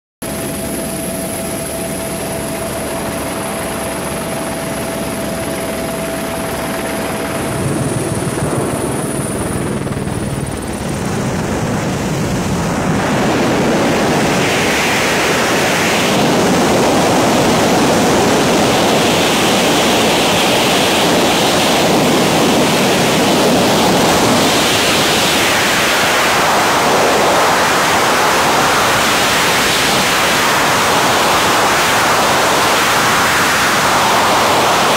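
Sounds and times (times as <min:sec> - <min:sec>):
aircraft engine whine: 0:00.2 - 0:34.9
wind rushing over camera: 0:00.5 - 0:34.9.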